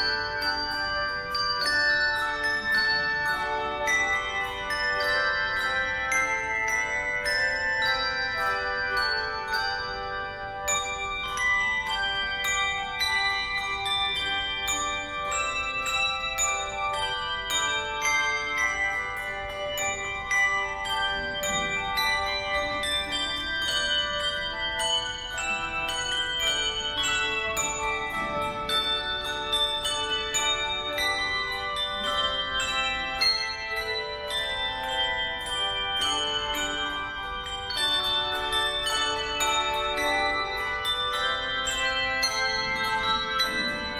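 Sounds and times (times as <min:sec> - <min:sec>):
tuned bells melody: 0:00.0 - 0:43.9.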